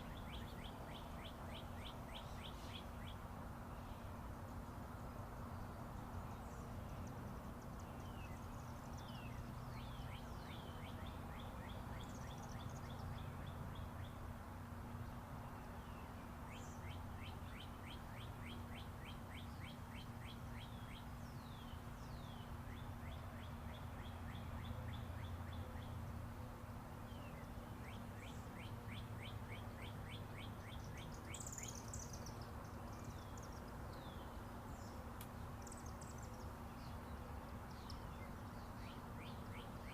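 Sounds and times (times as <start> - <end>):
distant highway traffic rumble: 0.0 - 39.9
songbirds chirping and trilling: 0.0 - 39.9.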